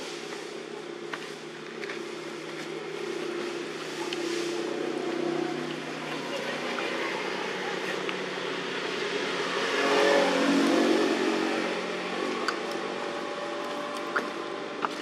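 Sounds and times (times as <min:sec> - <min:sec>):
motor engine droning: 0:00.0 - 0:15.0.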